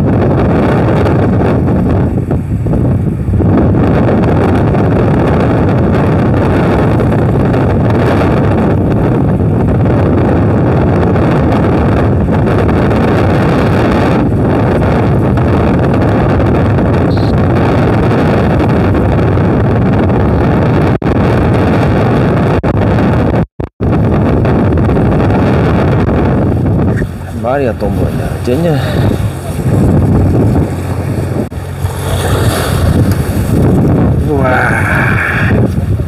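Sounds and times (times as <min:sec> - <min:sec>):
boat engine rumble: 0:00.0 - 0:36.0
wind buffeting microphone: 0:00.0 - 0:36.0.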